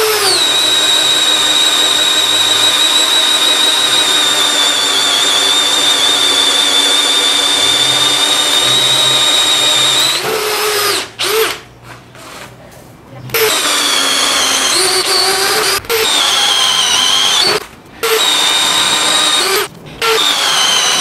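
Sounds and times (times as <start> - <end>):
cordless drill boring into wood: 0.0 - 11.6, 13.3 - 21.0.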